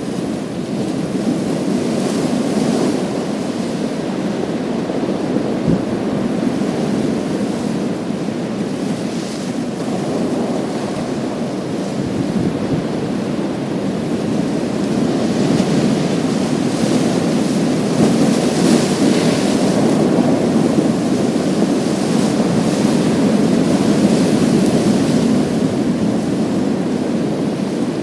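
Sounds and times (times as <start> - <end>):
waves breaking on pebble beach: 0.0 - 28.0.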